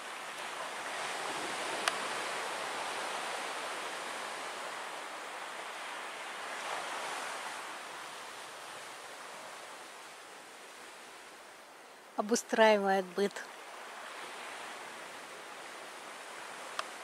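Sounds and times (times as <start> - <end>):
waves washing on shore: 0.0 - 17.0.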